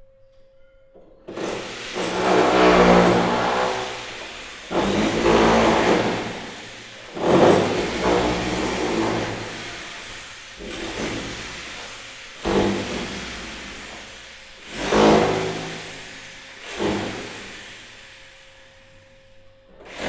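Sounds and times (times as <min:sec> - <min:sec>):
motor revving in bursts: 0:01.3 - 0:18.1.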